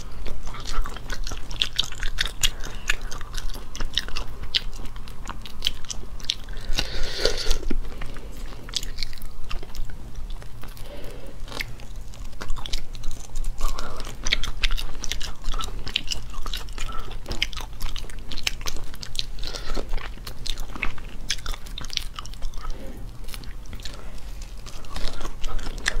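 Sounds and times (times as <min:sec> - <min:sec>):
chewing: 0:00.0 - 0:26.0.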